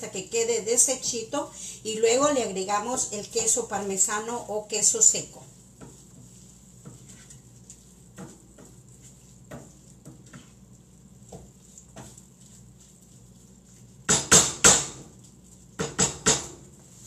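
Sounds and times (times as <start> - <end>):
wooden spoon stirring in frying pan: 0.0 - 17.0.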